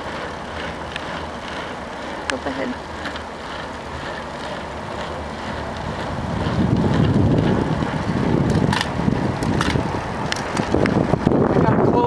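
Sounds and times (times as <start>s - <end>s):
slow vehicle running: 0.0s - 12.0s
wind buffeting microphone: 0.0s - 12.0s.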